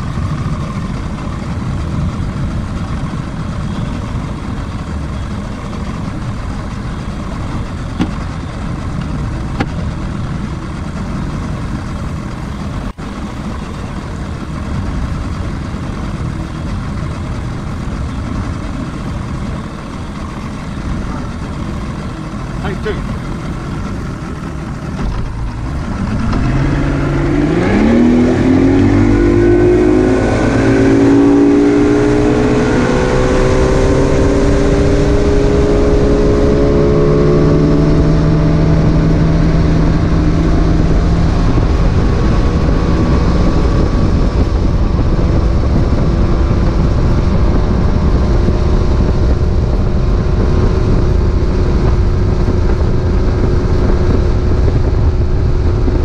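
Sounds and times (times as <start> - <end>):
outboard motor revving: 0.0 - 56.0.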